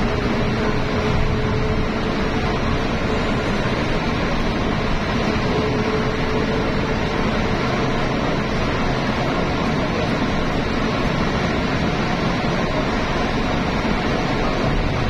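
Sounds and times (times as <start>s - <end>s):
vehicle road noise from inside: 0.0s - 15.0s.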